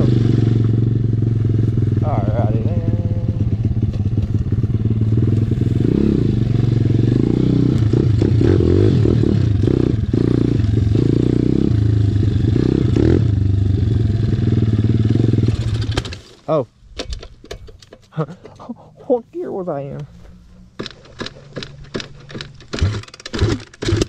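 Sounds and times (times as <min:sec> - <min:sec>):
motorbike engine revving: 0:00.0 - 0:16.2, 0:20.8 - 0:24.0.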